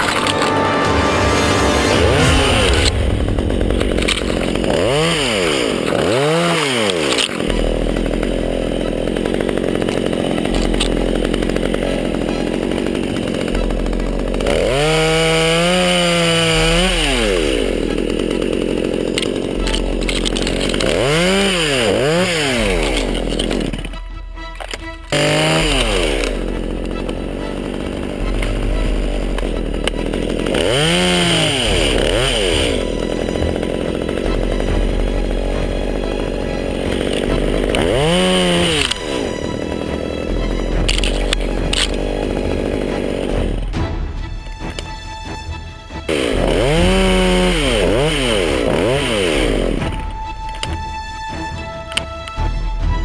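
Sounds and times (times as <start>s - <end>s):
chainsaw revving: 0.0s - 52.4s
background music: 0.0s - 53.0s.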